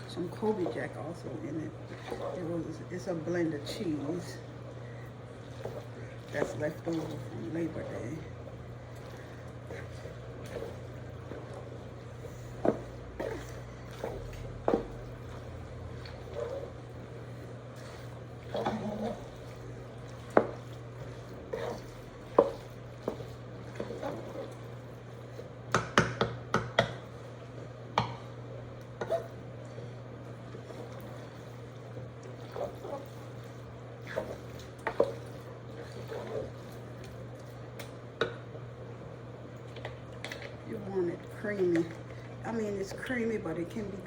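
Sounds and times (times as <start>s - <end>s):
spoon stirring macaroni: 0.1s - 38.4s.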